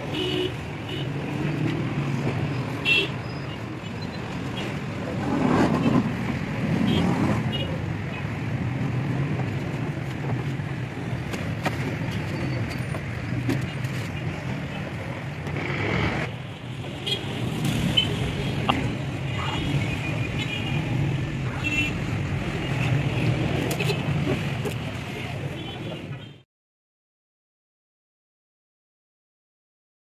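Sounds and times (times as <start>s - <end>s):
vehicle engines passing: 0.0s - 26.2s.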